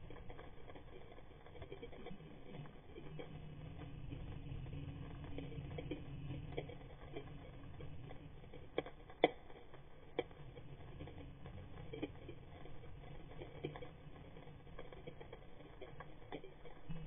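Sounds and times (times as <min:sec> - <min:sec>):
underwater clicks and crackles: 0:00.0 - 0:17.0
underwater low rumble: 0:00.0 - 0:17.0.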